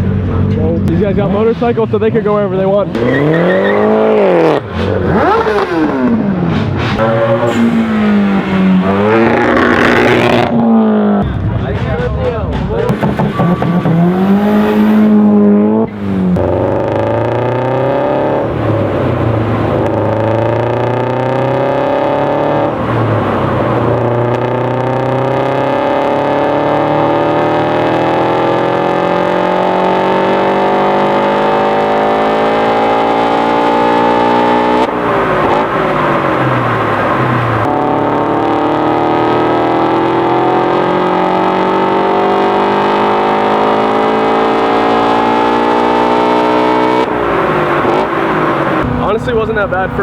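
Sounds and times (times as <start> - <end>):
car engine at full throttle: 0.0 - 50.0.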